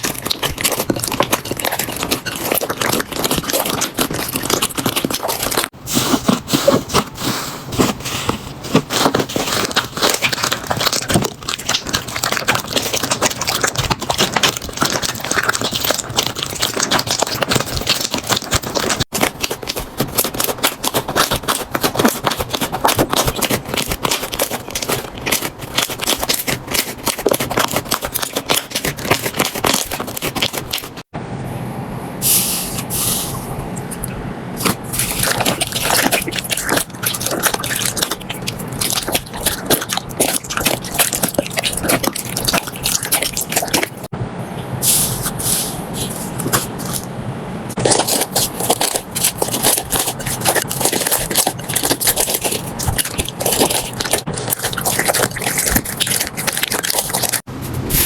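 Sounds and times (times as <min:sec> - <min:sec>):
slime crackling and popping: 0:00.0 - 0:05.7, 0:08.6 - 0:31.0, 0:34.6 - 0:44.1, 0:47.7 - 0:57.5.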